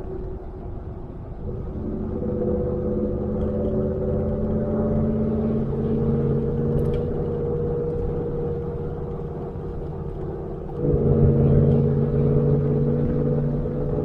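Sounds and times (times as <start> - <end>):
road noise: 0.0 - 14.0
truck exhaust drone: 0.0 - 14.0.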